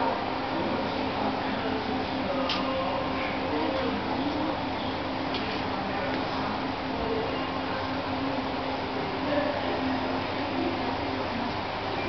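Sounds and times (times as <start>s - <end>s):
faint indistinct voices: 0.0s - 12.0s
room hiss and hum: 0.0s - 12.0s.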